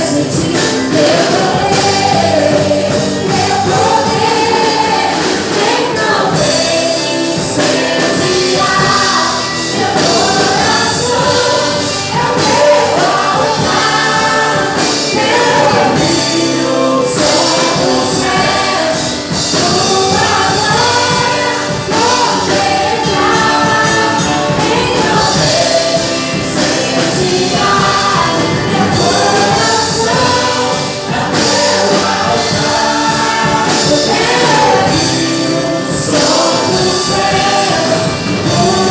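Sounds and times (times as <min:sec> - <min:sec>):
band playing: 0:00.0 - 0:38.9
choir singing gospel: 0:00.0 - 0:38.9.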